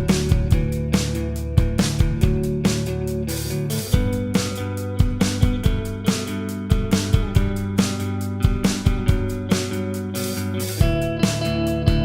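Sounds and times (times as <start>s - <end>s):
instrumental music with guitar: 0.0s - 12.0s.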